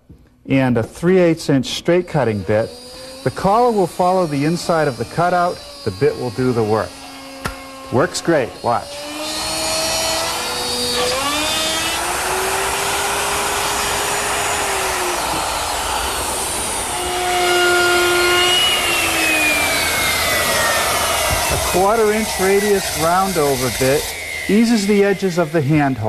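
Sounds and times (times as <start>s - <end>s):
electric router cutting wood: 1.7s - 26.0s.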